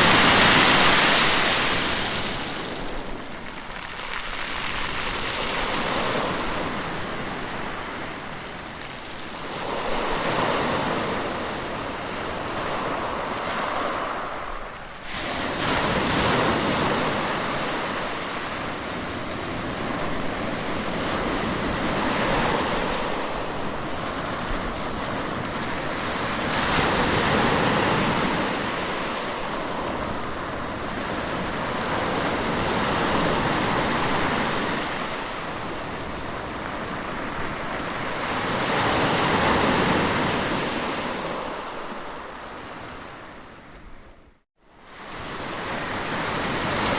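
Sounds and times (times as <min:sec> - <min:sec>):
sea waves breaking: 0:00.0 - 0:43.5.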